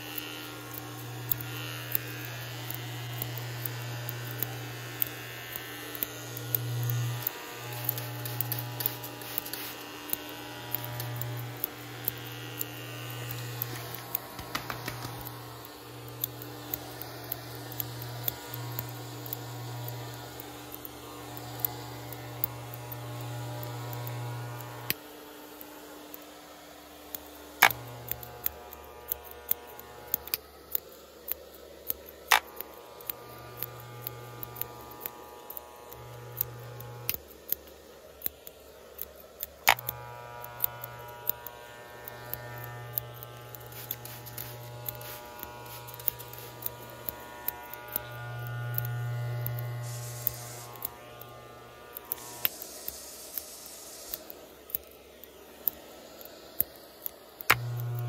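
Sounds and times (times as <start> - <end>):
sharp clicks: 0.0 - 25.0, 27.1 - 58.0
electric hair clippers buzzing: 0.0 - 58.0.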